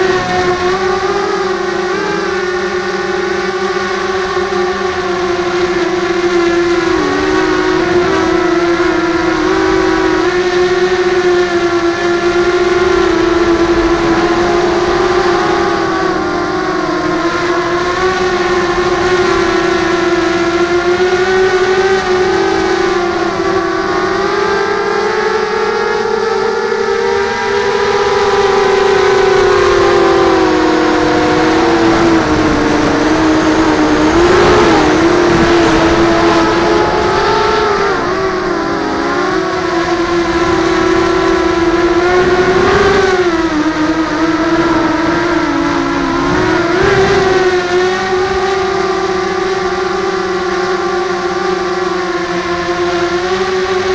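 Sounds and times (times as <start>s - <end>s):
drone motors whining: 0.0s - 53.9s.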